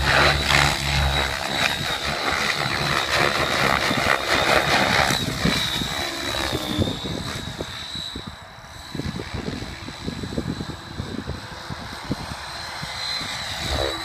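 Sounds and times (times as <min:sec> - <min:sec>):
rc helicopter rotor whine: 0:00.0 - 0:14.0.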